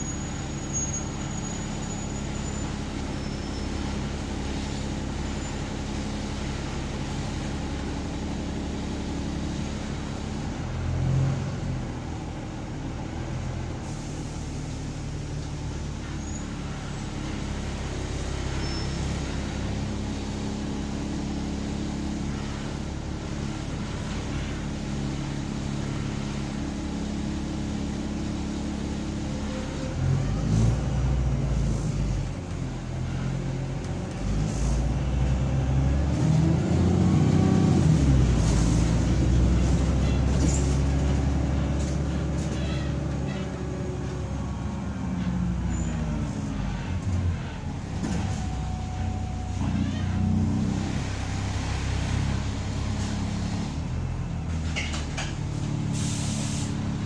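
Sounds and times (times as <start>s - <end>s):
bus engine revving: 0.0s - 57.0s.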